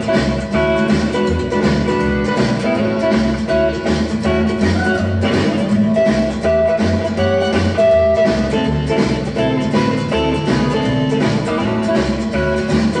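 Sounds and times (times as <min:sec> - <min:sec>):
rock and roll record playing: 0:00.0 - 0:13.0.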